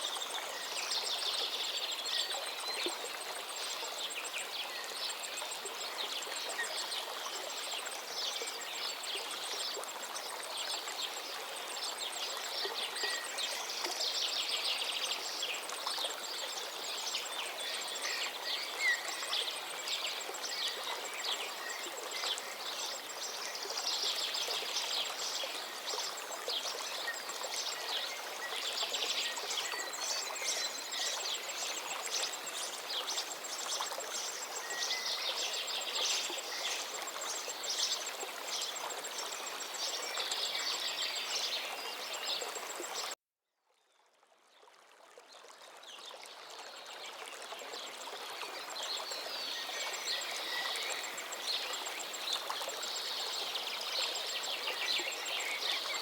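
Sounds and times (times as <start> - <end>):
forest river flowing: 0.0 - 43.2, 44.2 - 56.0.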